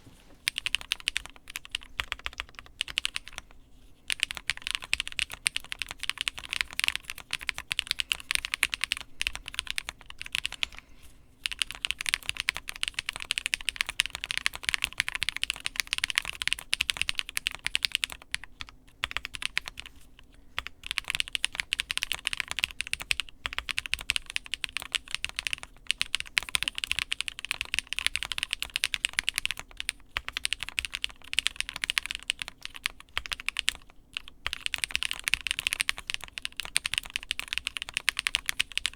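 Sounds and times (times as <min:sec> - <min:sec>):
fast typing on mechanical keyboard: 0:00.0 - 0:03.5, 0:04.1 - 0:38.9.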